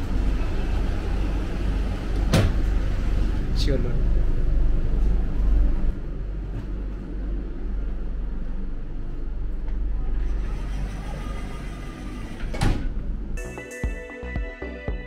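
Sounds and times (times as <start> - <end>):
train coach rumble and hum: 0.0 - 13.4.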